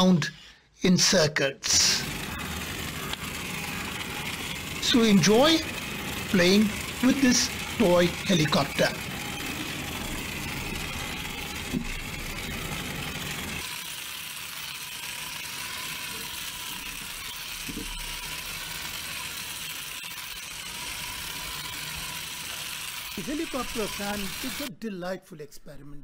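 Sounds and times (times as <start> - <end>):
toy helicopter motor whirring: 1.0 - 24.7.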